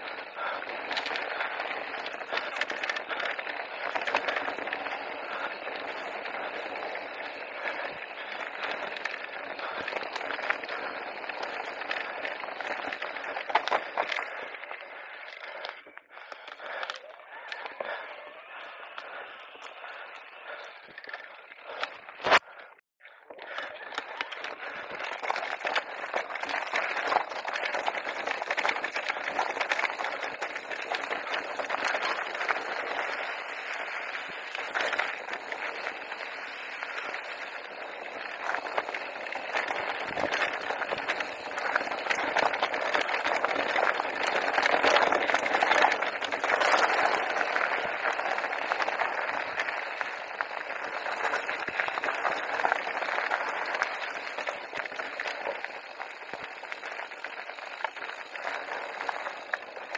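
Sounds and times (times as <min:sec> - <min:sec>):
bike rattling: 0:00.0 - 0:59.9
bike tyres rolling on gravel: 0:00.0 - 0:59.9.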